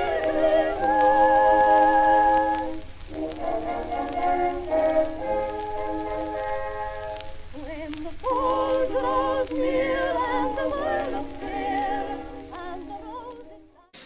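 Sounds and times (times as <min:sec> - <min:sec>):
old gramophone singing: 0:00.0 - 0:14.0.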